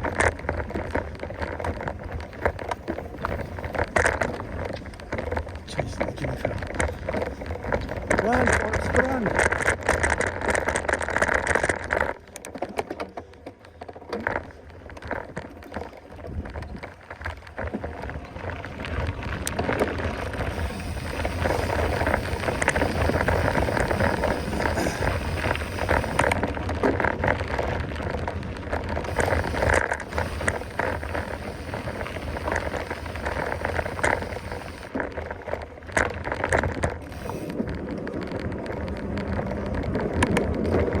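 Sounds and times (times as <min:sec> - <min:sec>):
bike rattling over bumps: 0:00.0 - 0:41.0
bike tyres crunching on dirt: 0:00.0 - 0:41.0.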